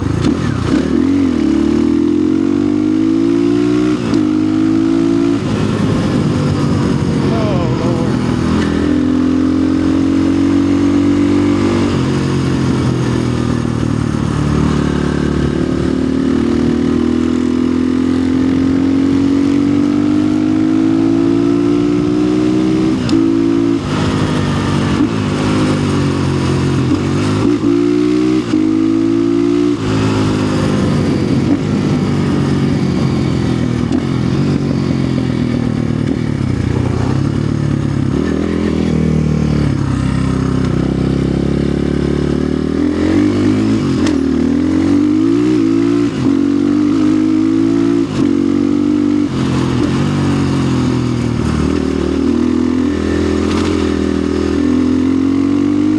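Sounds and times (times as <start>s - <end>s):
dirt bike engine revving: 0.0s - 32.4s, 36.4s - 55.9s.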